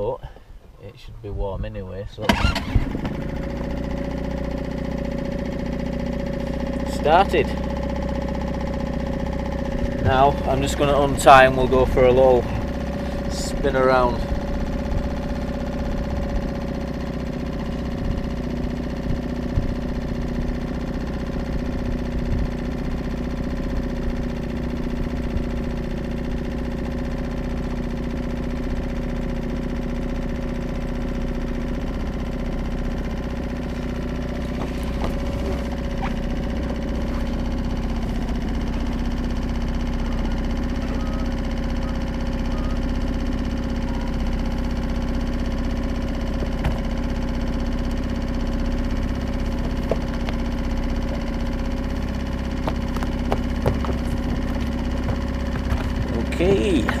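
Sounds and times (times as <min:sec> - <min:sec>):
outboard motor idling: 0:02.2 - 0:57.0.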